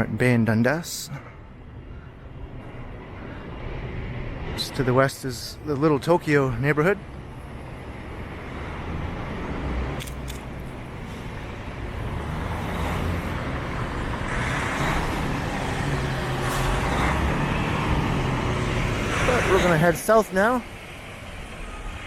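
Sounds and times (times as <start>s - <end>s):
tyres passing: 0.2s - 22.0s
vehicle engines running: 1.6s - 22.0s.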